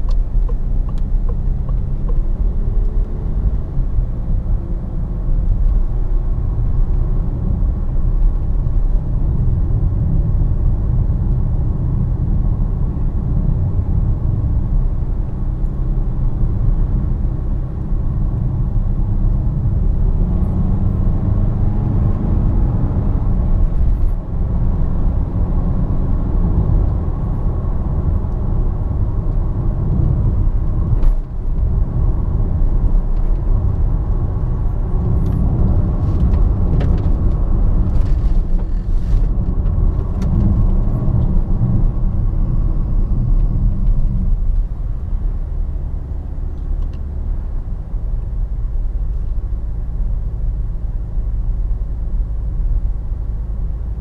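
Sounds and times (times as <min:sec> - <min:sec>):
diesel car engine accelerating: 0:00.0 - 0:54.0
tyre and road noise: 0:00.0 - 0:54.0.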